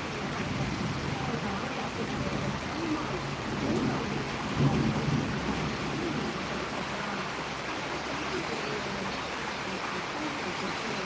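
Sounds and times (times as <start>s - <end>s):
rain and wind rushing: 0.0s - 11.0s.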